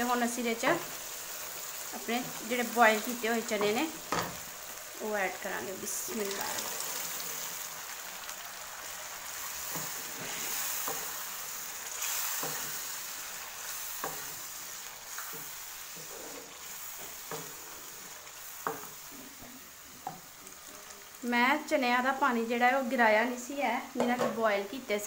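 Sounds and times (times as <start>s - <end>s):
curry sizzling in a pan: 0.0s - 25.0s.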